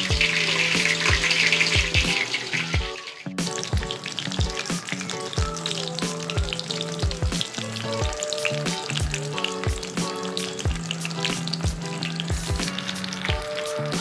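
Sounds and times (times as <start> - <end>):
background music with beat: 0.0 - 14.0
vegetables sizzling in hot oil: 0.0 - 14.0.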